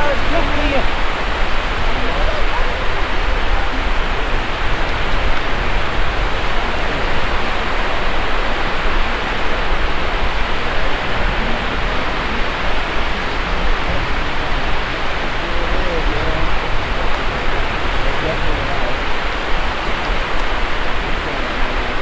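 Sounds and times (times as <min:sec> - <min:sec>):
small surf breaking on a beach: 0:00.0 - 0:22.0
wind buffeting the microphone: 0:00.0 - 0:22.0.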